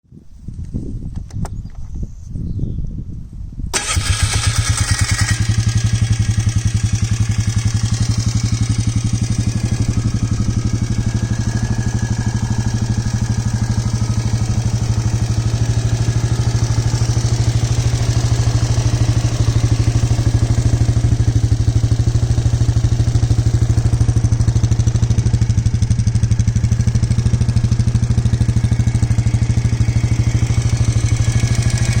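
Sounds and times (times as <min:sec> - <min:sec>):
engine starting and idling: 0:03.7 - 0:26.2, 0:27.7 - 0:32.0.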